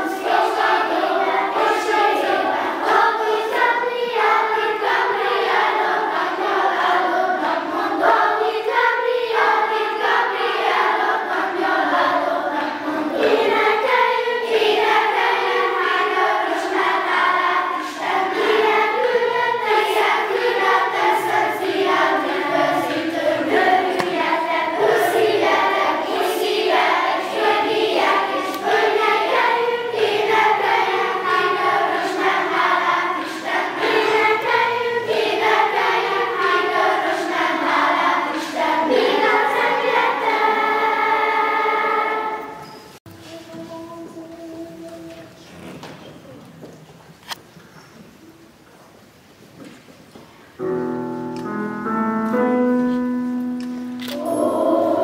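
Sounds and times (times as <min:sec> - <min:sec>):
children's choir singing: 0:00.0 - 0:46.5, 0:50.5 - 0:55.0.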